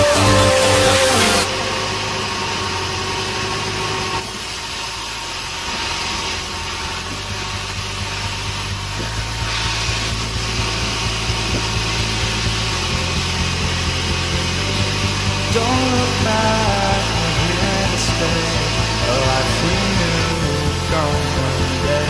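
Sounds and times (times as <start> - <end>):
sawmill machine hum: 0.0 - 22.0.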